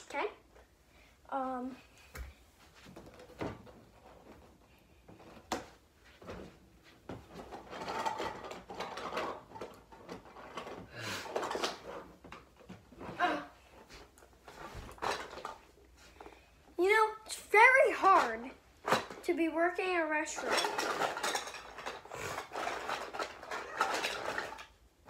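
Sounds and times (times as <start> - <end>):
plastic toys rustling and clattering: 1.4 - 25.0.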